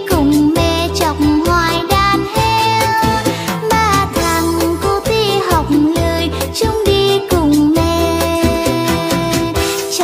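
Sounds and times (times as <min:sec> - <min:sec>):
lively background music: 0:00.0 - 0:10.0.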